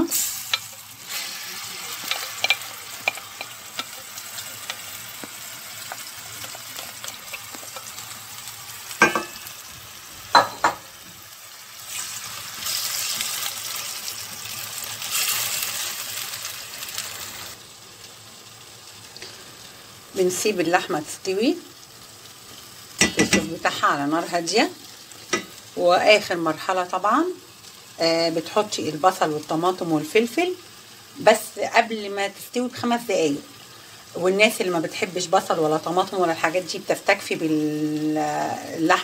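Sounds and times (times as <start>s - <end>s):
meat sizzling in a frying pan: 0.0s - 39.0s.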